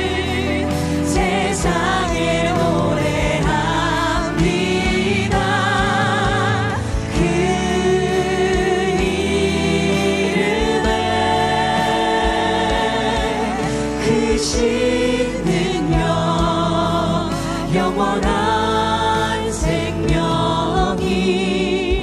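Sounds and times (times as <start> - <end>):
singers holding notes: 0.0 - 22.0
worship band playing: 0.0 - 22.0.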